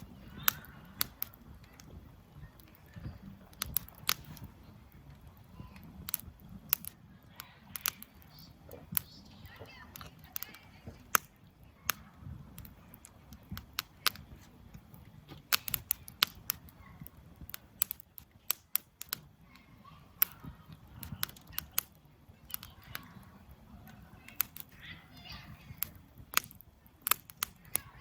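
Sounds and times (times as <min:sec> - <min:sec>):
burning wood popping: 0:00.0 - 0:28.0
campfire crackling: 0:00.0 - 0:28.0.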